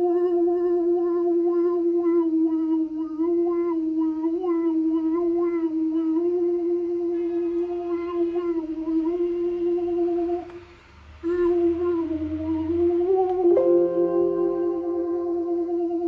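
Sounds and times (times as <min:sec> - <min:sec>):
person humming a long note: 0:00.0 - 0:16.0.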